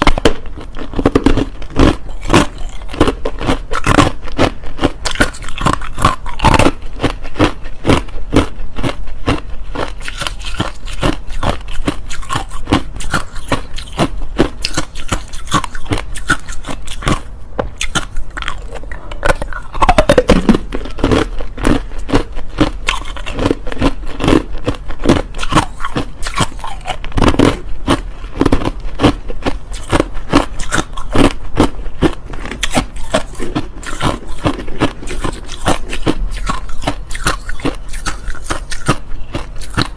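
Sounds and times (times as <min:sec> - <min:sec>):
crushed ice being chewed: 0:00.0 - 0:39.9.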